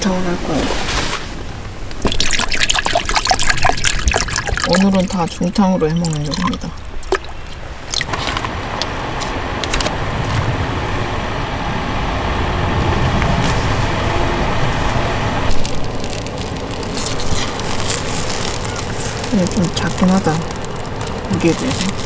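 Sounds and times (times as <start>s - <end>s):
pot of water boiling: 1.9s - 22.0s.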